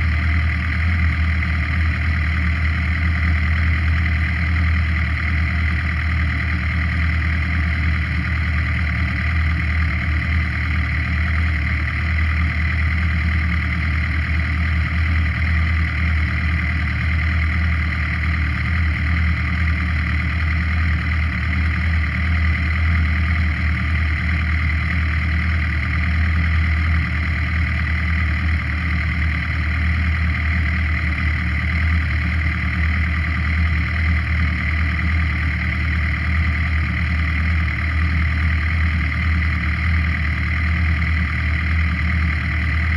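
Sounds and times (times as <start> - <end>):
motorcycle engine droning: 0.0 - 42.9.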